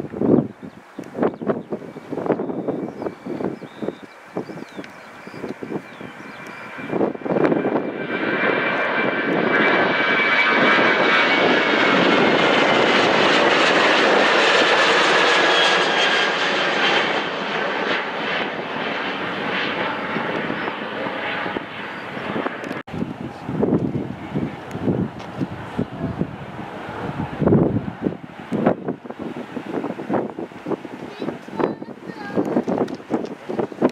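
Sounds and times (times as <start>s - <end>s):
jet engines passing: 0.0s - 33.9s.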